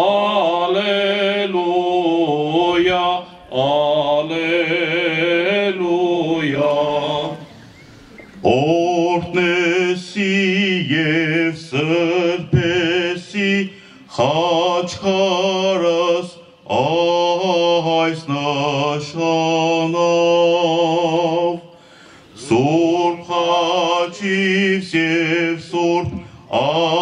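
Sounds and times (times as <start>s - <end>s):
man chanting a hymn: 0.0s - 7.7s, 8.4s - 27.0s.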